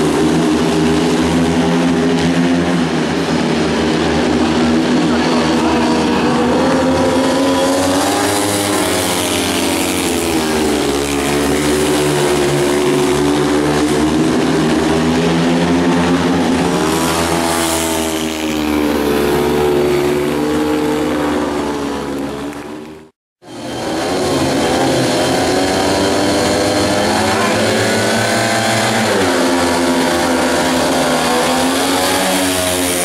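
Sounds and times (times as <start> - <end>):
motorcycles racing: 0.0 - 33.0.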